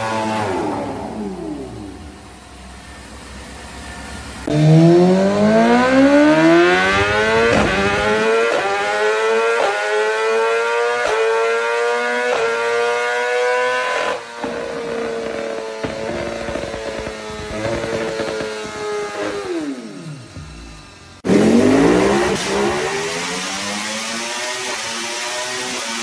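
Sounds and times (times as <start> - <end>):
superbike engine accelerating: 4.0 - 26.0.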